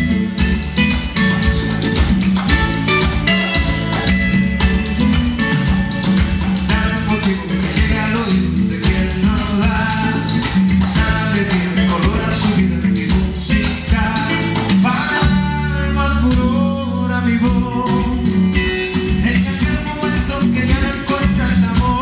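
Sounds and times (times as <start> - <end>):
live band playing funk: 0.0 - 22.0.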